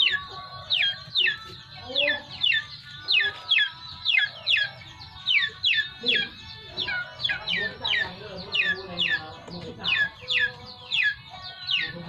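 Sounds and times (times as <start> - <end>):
young animal peeping calls: 0.0 - 12.0.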